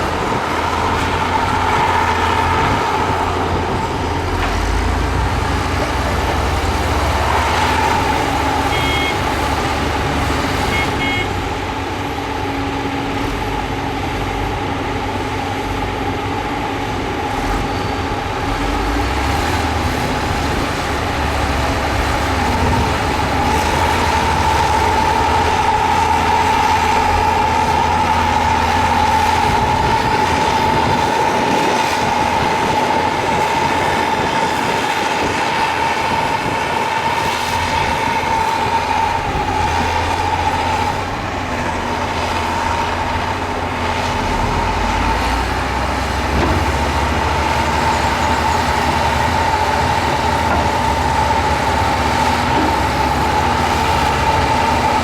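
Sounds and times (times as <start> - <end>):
diesel machinery engine rumble: 0.0 - 55.0.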